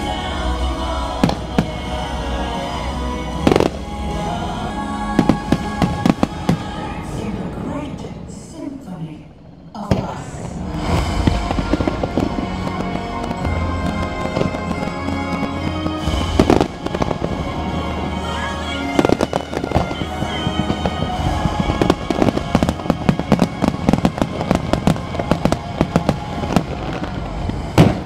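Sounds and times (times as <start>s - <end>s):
fireworks bangs and crackles: 0.0s - 8.3s, 9.8s - 28.0s
music playing: 0.0s - 28.0s.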